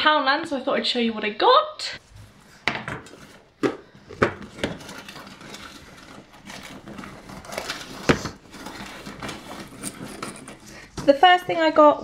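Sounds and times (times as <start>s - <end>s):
handling and rustling: 2.0s - 12.0s.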